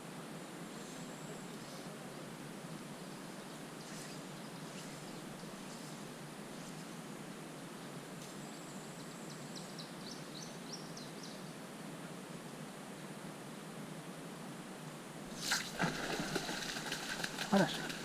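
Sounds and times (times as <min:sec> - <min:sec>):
faint outdoor hiss by a river: 0:00.0 - 0:18.0.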